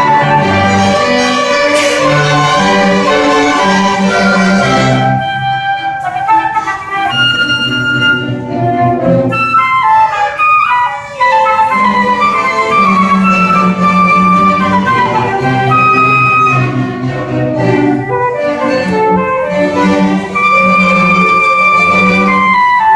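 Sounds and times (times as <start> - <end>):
wind instrument melody: 0.0 - 22.9.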